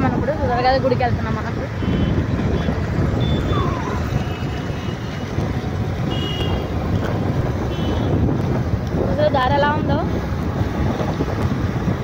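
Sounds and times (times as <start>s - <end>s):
street traffic passing: 0.0s - 12.0s
wind rumble on microphone: 0.0s - 12.0s.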